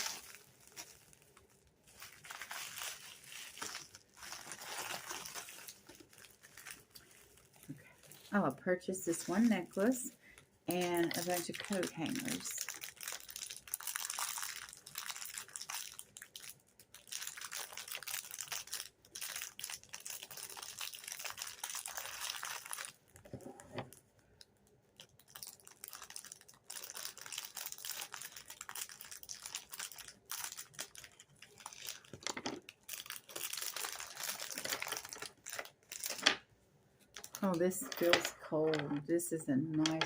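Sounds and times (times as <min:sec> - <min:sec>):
packaging crinkling and rustling: 0:00.0 - 0:36.4, 0:37.0 - 0:39.0.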